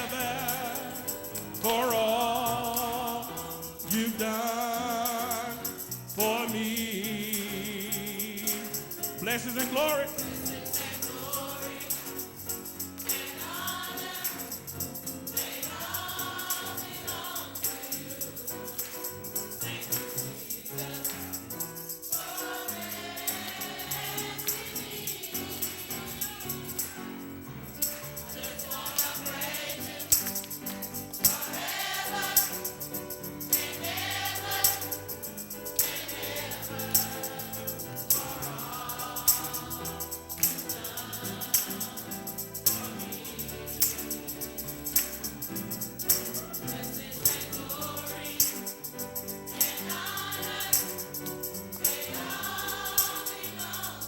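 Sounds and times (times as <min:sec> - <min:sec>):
gospel choir singing: 0:00.0 - 0:54.0
instrumental accompaniment: 0:00.0 - 0:54.0.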